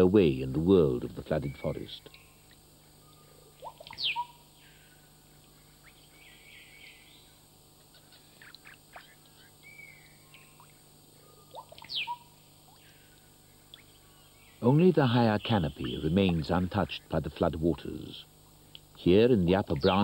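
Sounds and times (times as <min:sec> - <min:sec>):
bird chirps: 0:01.3 - 0:17.1, 0:19.7 - 0:20.0.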